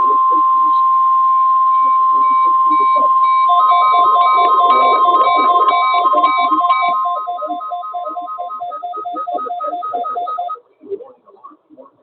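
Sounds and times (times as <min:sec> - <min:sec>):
slower higher beep: 0:00.0 - 0:10.5
rapid two-pitch beeping: 0:00.0 - 0:10.6
steady alarm tone: 0:00.0 - 0:10.6.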